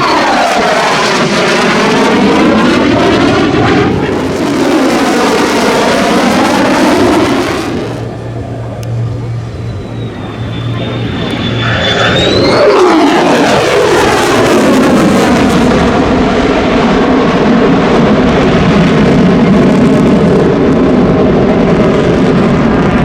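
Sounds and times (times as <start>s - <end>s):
jet engine passing by: 0.0s - 23.0s.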